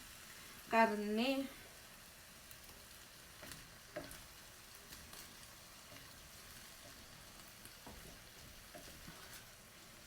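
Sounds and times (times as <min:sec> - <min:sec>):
food sizzling in a pan: 0:00.0 - 0:10.0
small crackles: 0:01.4 - 0:10.0.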